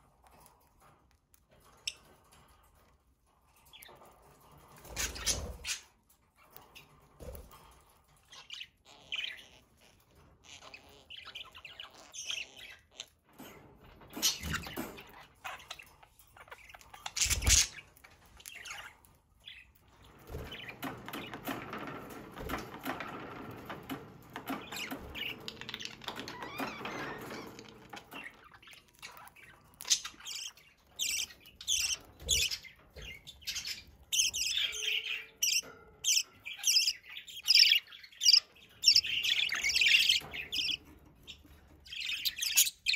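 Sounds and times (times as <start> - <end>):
budgerigars chirping and squawking: 3.5 - 42.9.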